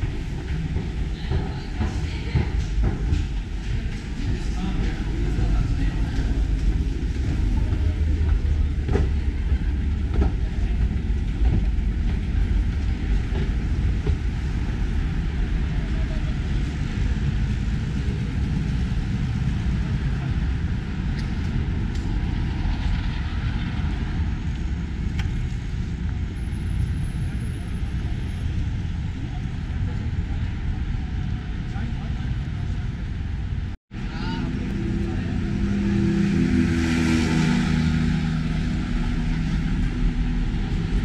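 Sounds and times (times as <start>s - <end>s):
city street traffic rumble: 0.0s - 41.0s.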